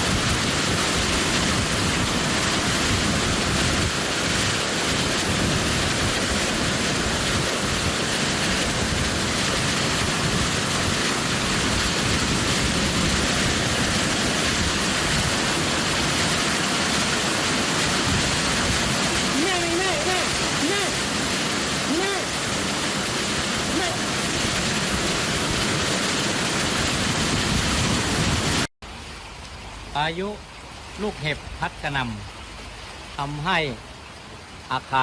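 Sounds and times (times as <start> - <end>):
strong wind: 0.0 - 28.7
heavy rain: 0.0 - 35.0.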